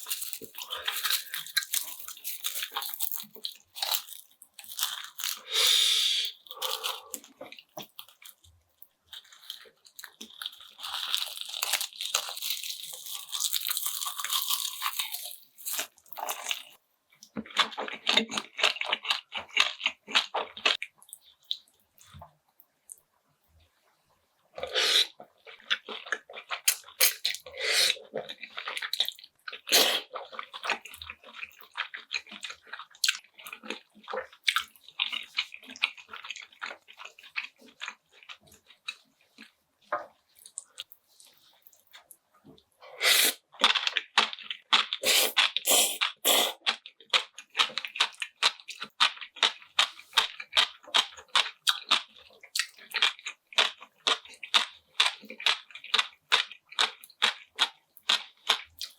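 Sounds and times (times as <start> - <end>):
wet chewing: 0.0 - 22.2, 24.6 - 58.9.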